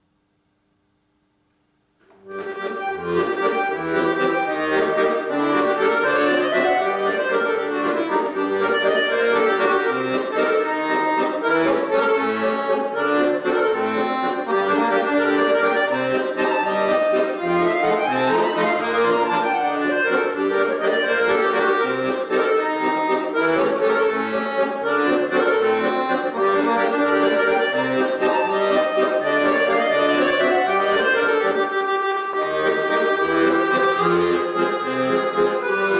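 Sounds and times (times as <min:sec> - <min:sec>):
accordion playing lively tune: 0:02.1 - 0:35.9.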